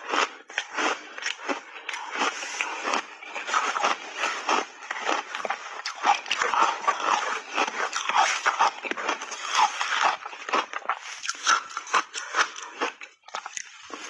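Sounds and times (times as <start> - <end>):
chewing crunchy ice: 0.0 - 14.0.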